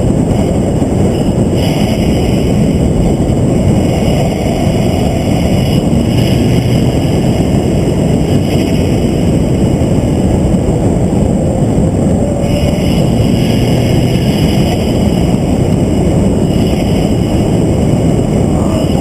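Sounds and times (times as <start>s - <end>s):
rushing air: 0.0s - 19.0s
vehicle engine roar: 0.0s - 19.0s.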